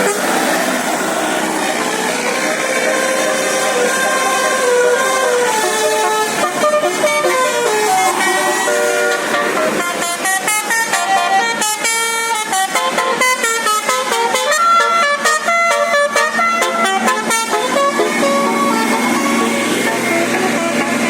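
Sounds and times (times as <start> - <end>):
musical bus horn playing tune: 0.0 - 21.0.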